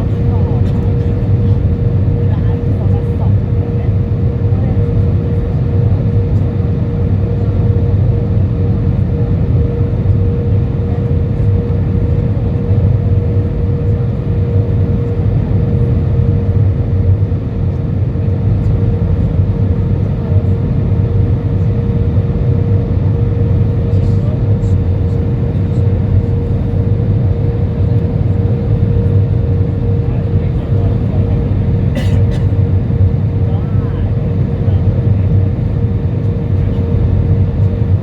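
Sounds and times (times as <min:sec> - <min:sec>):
aircraft engine and airflow rush: 0:00.0 - 0:38.0
steady cabin hum tone: 0:00.0 - 0:38.0.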